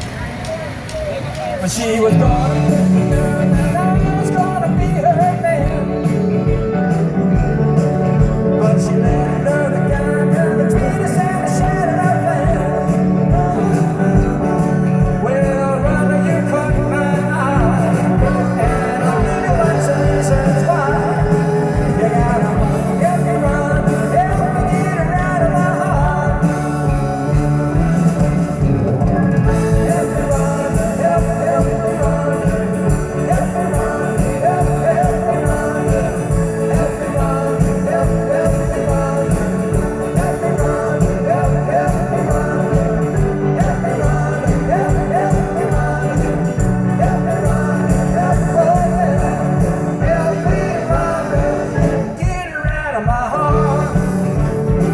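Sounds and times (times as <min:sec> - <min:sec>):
live rock band playing: 0:00.0 - 0:54.9
person singing: 0:01.4 - 0:54.9.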